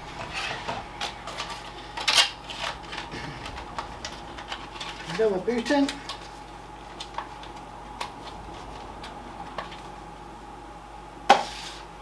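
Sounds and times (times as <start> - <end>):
desktop computer humming: 0.0 - 11.3.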